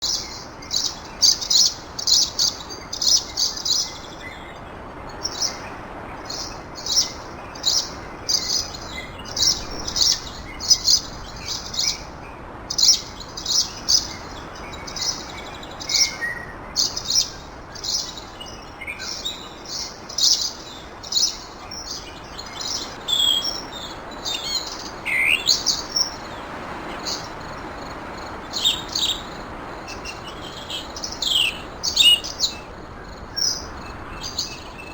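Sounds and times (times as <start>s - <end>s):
small birds chirping: 0.0s - 34.9s
soft background hiss: 0.0s - 34.9s
sweeping bird calls: 0.0s - 34.9s.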